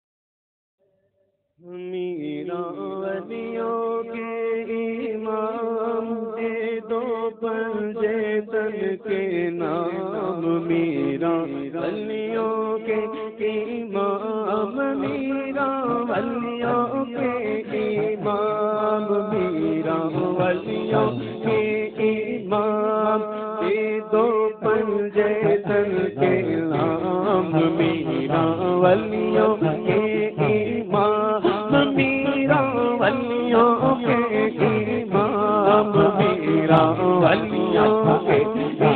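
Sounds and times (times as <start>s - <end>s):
man singing into a microphone: 1.6s - 38.9s.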